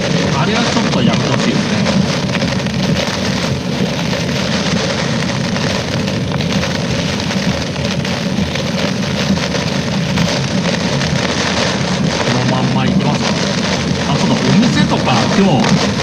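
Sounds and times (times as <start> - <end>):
car engine and tyre noise: 0.0 - 16.0
heavy rain on a car: 0.0 - 16.0.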